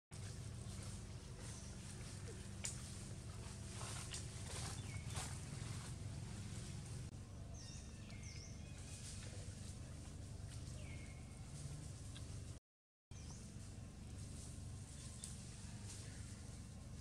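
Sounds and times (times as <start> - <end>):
steady low rumble: 0.1 - 12.6, 13.2 - 17.0.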